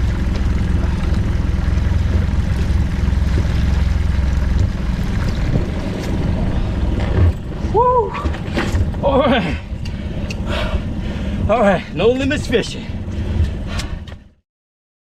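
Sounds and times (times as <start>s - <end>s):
rushing water: 0.0s - 13.4s
wind noise: 0.0s - 14.1s
motorboat engine rumble: 0.0s - 14.4s.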